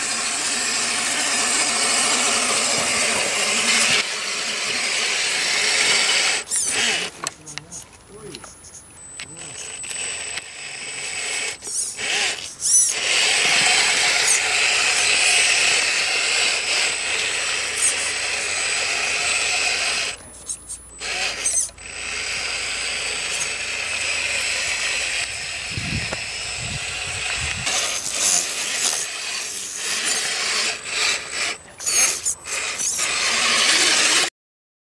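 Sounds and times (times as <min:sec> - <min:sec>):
rc truck motor whining: 0:00.0 - 0:07.8, 0:08.4 - 0:34.3.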